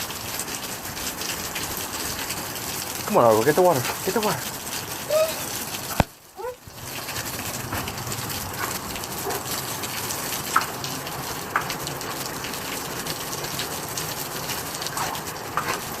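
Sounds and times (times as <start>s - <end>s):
rain and running water: 0.0s - 16.0s.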